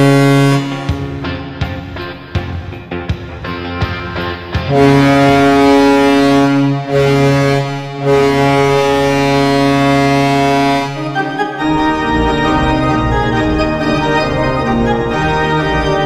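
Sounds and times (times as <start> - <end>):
deep goal horn blasts: 0.0 - 2.3, 4.7 - 16.0
organ music: 0.0 - 16.0.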